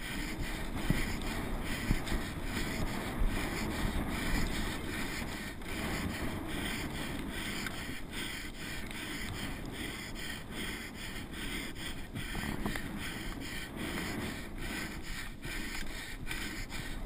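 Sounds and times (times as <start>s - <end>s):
person breathing hard: 0.0s - 17.0s
wind on microphone: 0.0s - 17.0s.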